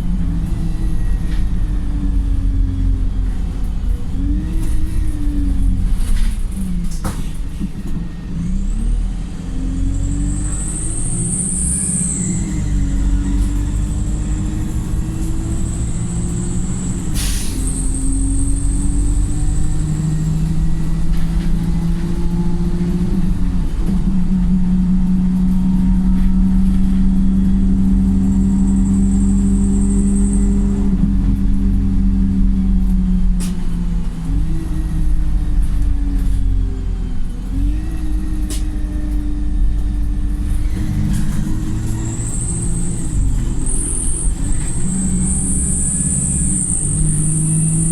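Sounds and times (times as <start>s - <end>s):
bus engine pulling loudly: 0.0s - 47.9s.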